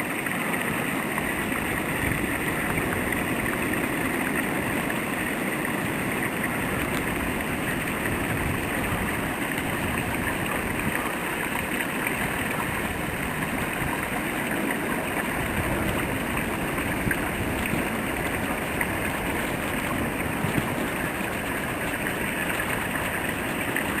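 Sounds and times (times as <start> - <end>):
rushing wind of snowstorm: 1.2 - 11.5, 12.5 - 24.0.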